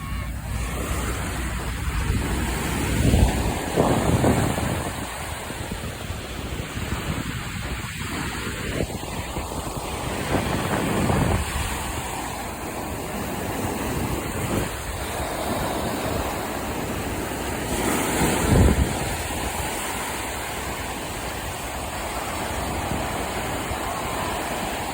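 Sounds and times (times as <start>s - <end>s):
ocean surf washing onto beach: 0.0s - 24.9s
wind buffeting microphone: 0.0s - 24.9s.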